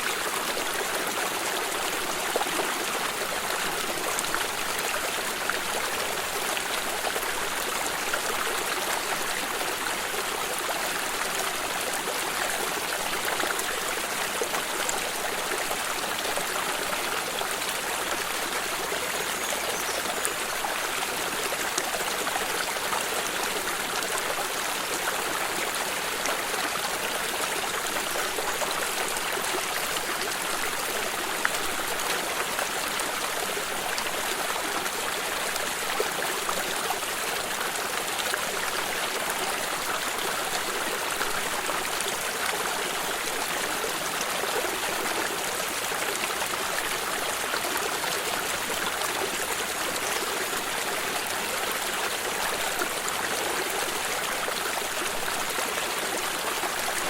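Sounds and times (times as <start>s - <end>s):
stream water trickling: 0.0s - 57.0s.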